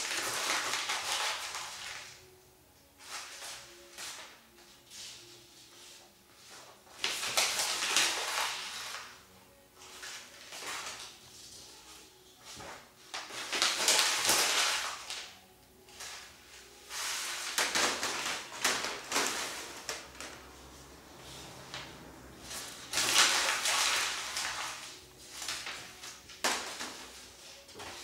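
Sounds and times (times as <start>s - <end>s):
paper crumpling and rustling: 0.0s - 2.2s, 3.0s - 4.4s, 5.0s - 9.2s, 9.8s - 20.7s, 22.5s - 28.0s.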